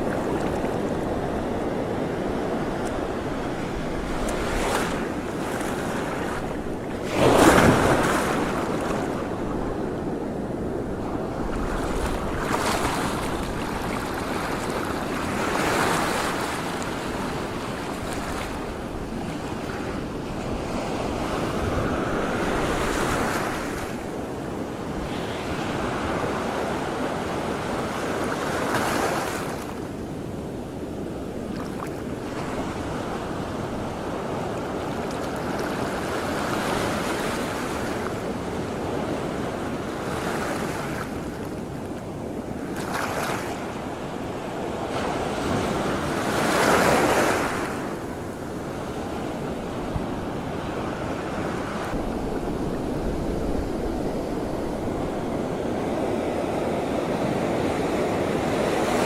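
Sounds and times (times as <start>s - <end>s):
wind buffeting microphone: 0.0s - 28.0s, 30.1s - 59.0s
water washing in waves: 0.0s - 59.0s.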